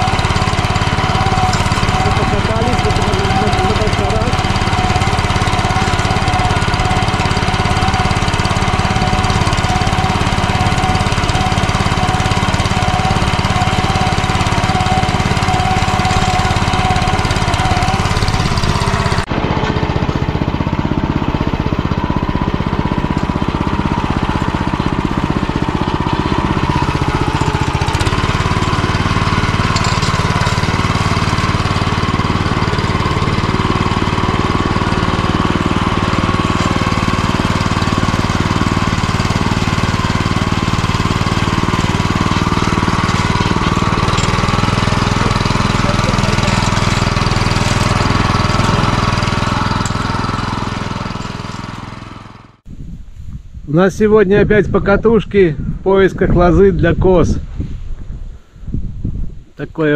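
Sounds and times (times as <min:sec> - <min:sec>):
small tractor engine running: 0:00.0 - 0:52.7.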